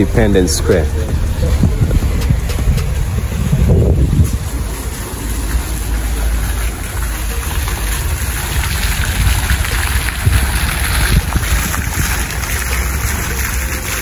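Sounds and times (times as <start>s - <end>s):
fountain water splashing: 0.0s - 14.0s
low rumble: 0.0s - 14.0s.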